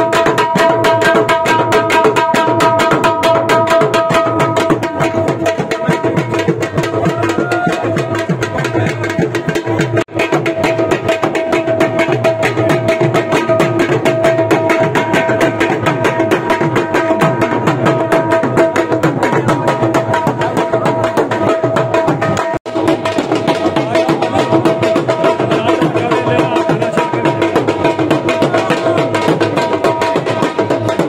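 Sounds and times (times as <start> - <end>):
barrel drum beaten with sticks: 0.0 - 31.0.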